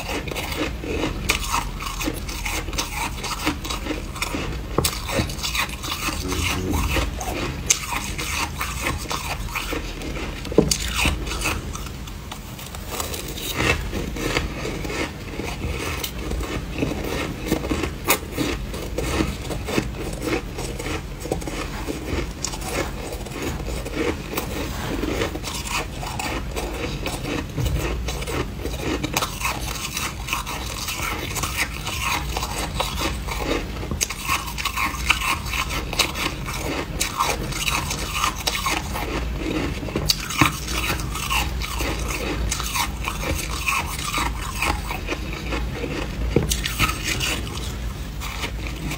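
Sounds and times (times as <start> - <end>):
crunching chewing: 0.0 - 48.9
spoon scraping frost: 0.0 - 48.9.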